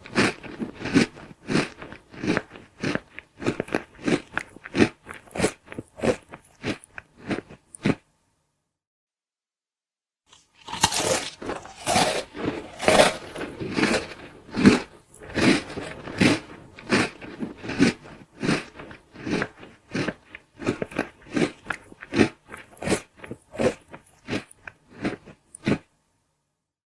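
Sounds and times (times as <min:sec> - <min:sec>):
person chewing food noisily: 0:00.0 - 0:08.0, 0:10.4 - 0:25.9.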